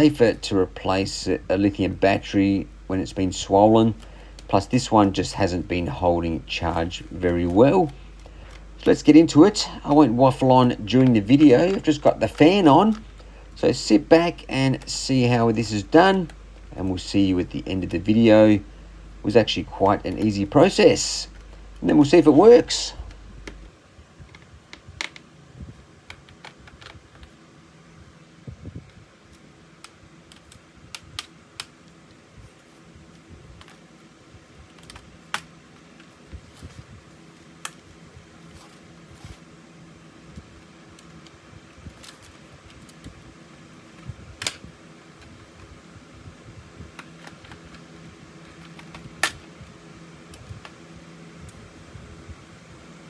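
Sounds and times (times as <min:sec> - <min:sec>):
room fan humming: 0:00.0 - 0:53.0.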